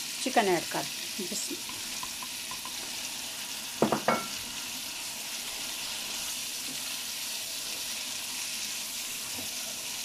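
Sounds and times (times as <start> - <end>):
chicken frying in oil: 0.0 - 10.0.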